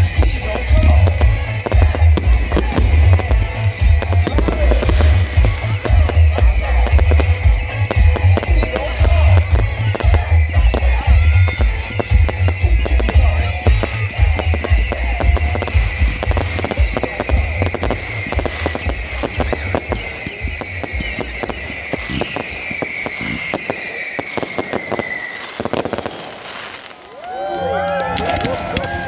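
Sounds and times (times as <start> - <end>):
firework whistles falling in pitch: 0.0 - 29.0
fireworks crackling bangs: 0.0 - 29.0.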